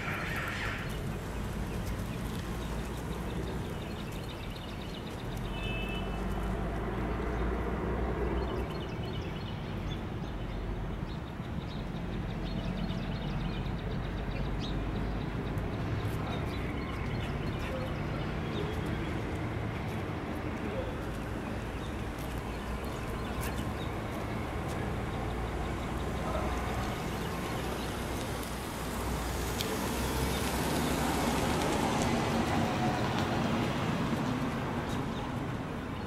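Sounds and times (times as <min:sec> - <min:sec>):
low rumble of road traffic: 0:00.0 - 0:36.0.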